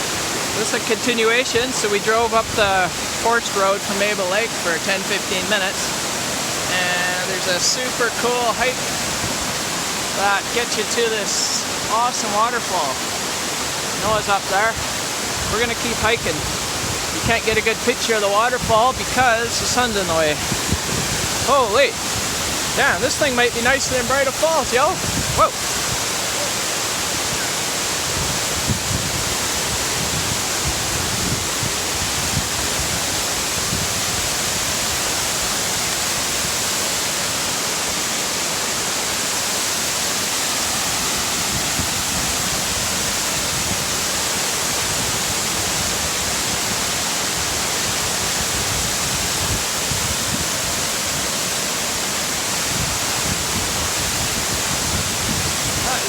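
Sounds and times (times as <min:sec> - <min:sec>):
waterfall pouring: 0:00.0 - 0:56.0.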